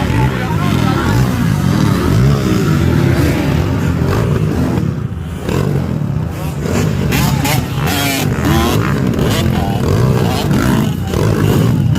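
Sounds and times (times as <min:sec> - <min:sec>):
motorcycle engines revving: 0:00.0 - 0:11.9.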